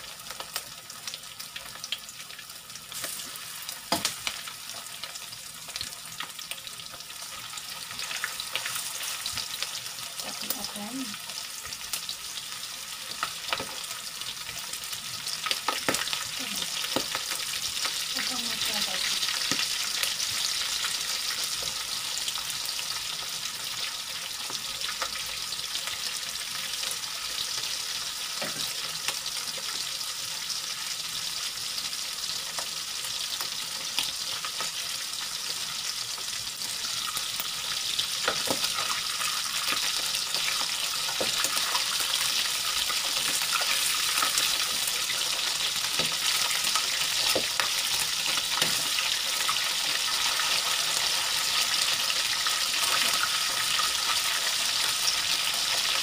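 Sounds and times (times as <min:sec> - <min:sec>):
chicken deep-frying in hot oil: 0:00.0 - 0:56.0.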